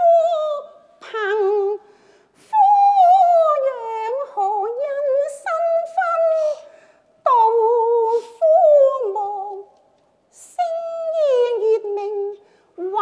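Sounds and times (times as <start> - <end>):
opera singing with vibrato: 0.0 - 13.0.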